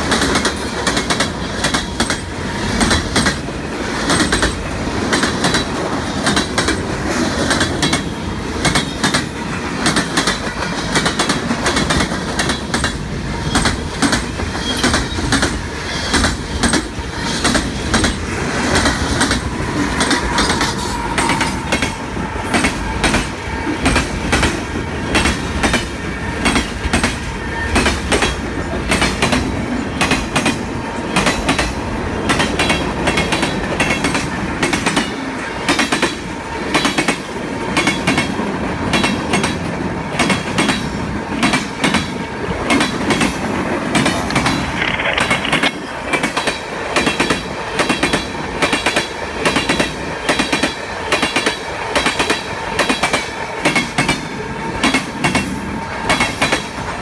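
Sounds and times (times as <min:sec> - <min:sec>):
wheels clacking over rail joints: 0:00.0 - 0:56.8.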